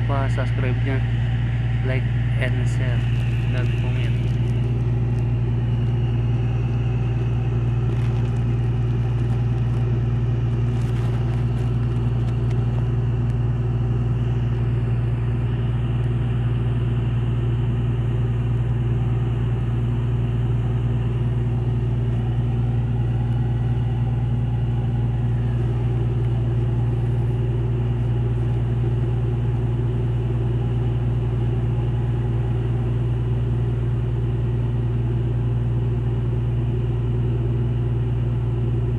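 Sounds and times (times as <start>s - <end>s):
marine diesel engines droning: 0.0s - 38.9s.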